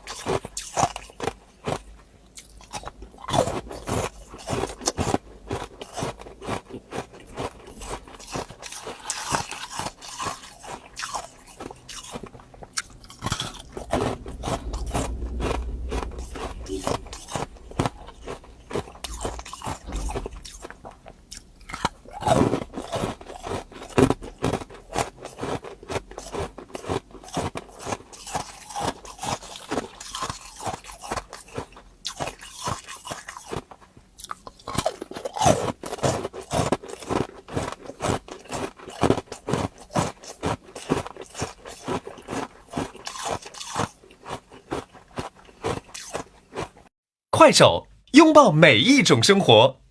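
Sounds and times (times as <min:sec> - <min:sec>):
person crunching ice cubes: 0:00.0 - 0:15.1, 0:15.9 - 0:46.8.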